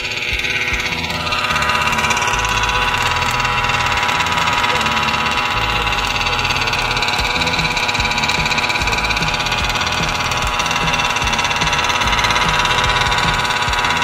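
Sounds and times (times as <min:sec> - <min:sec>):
small two-stroke engine idling: 0:00.0 - 0:14.0.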